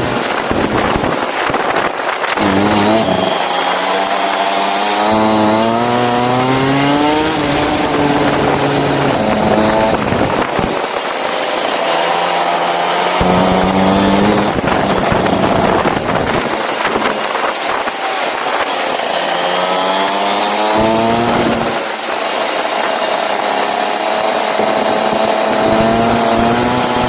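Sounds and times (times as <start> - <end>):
go-kart engine revving: 0.0 - 27.0
steady rushing noise: 0.0 - 27.0.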